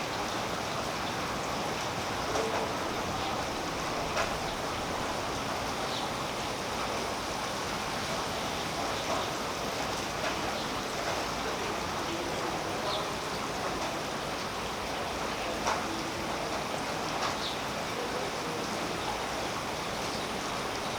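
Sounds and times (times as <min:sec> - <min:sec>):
rain falling on leaves: 0:00.0 - 0:20.9.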